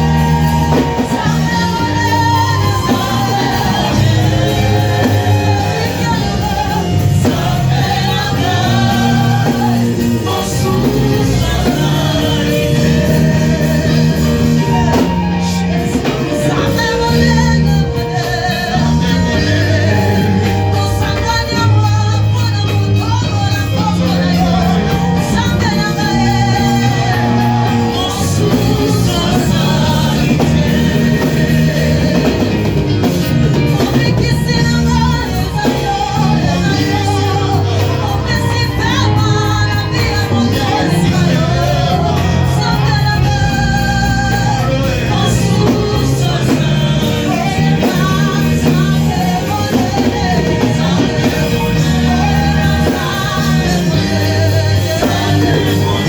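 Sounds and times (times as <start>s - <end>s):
band with steady bass: 0.0s - 56.0s
voices singing worship music: 0.0s - 56.0s.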